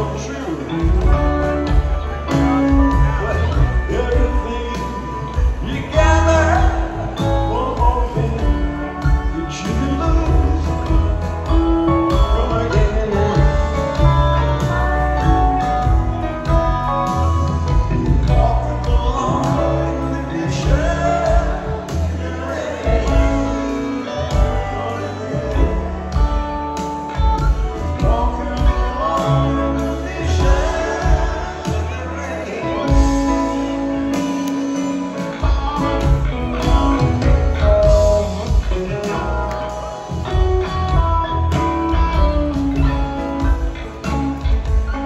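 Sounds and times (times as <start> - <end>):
acoustic guitar: 0.0 - 45.0
man singing a slow song: 0.0 - 45.0
pedal steel guitar: 0.0 - 45.0
piano: 0.0 - 45.0
upright bass: 0.0 - 45.0.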